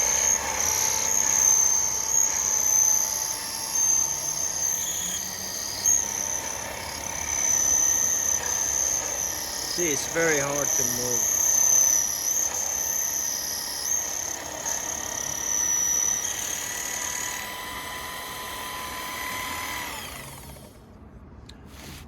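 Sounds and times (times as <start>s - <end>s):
lathe motor whining: 0.0s - 20.8s
motor winding down: 0.0s - 20.8s.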